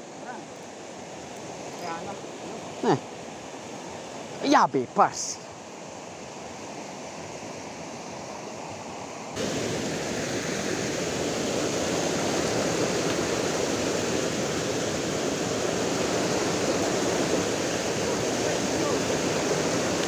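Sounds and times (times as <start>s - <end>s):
stream water rushing over rocks: 0.0s - 20.0s.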